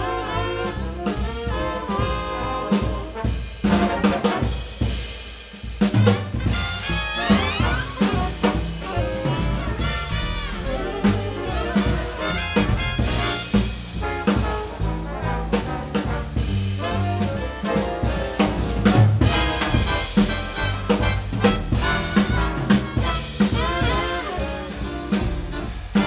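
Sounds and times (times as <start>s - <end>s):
brass and saxophone sections: 0.0s - 5.0s, 5.8s - 26.0s
piano: 0.0s - 5.1s, 5.7s - 26.0s
bass: 0.0s - 26.0s
drum kit: 0.0s - 26.0s.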